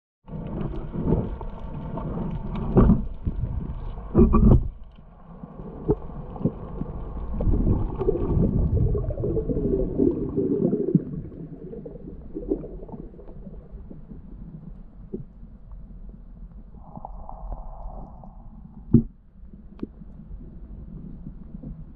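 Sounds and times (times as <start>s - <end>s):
underwater moving water: 0.3s - 21.9s.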